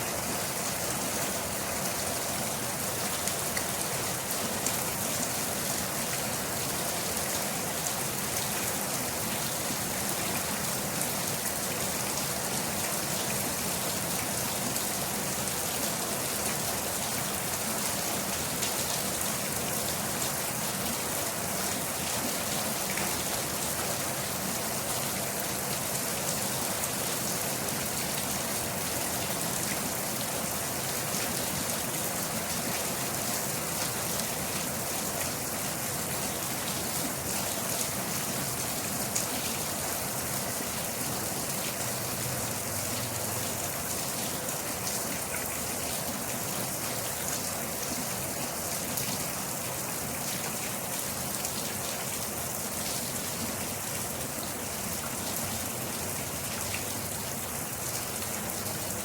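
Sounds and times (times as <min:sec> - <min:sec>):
rain pattering on a surface: 0:00.1 - 0:59.0.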